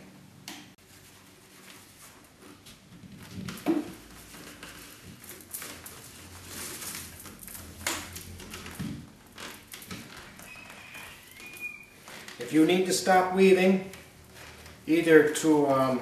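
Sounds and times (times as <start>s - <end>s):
paper cord rustling and scraping: 0.8s - 15.0s.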